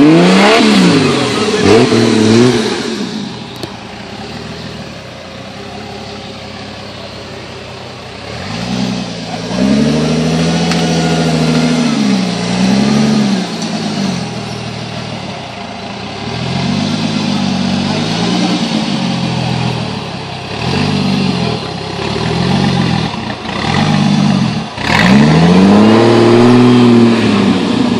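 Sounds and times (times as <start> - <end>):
engine revving: 0.0 - 5.1, 8.1 - 27.9.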